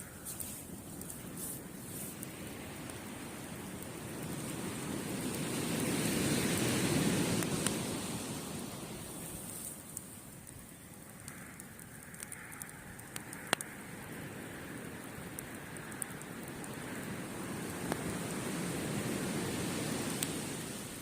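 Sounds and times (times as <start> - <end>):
sea waves: 0.0 - 11.0, 14.2 - 21.0
campfire crackling and popping: 0.0 - 21.0.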